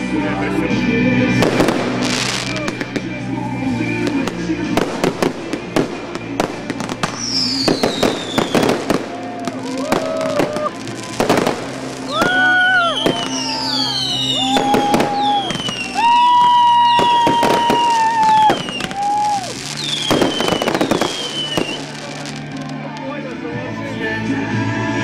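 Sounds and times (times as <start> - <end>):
fireworks bangs and crackles: 0.9 - 23.5.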